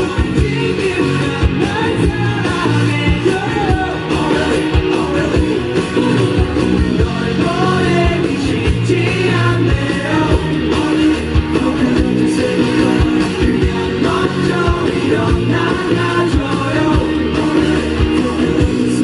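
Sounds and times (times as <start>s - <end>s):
drums keeping a beat: 0.0s - 19.0s
electric guitar: 0.0s - 19.0s
person singing: 0.0s - 19.0s.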